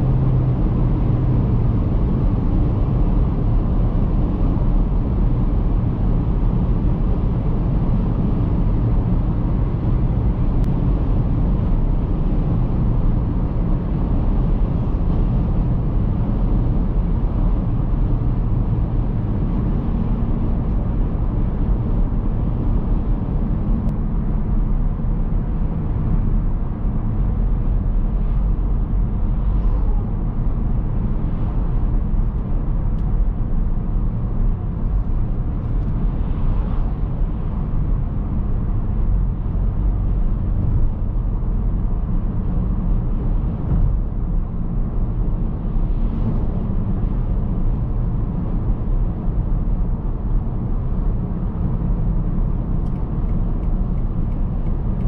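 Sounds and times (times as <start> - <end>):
car cabin road noise: 0.0 - 55.0.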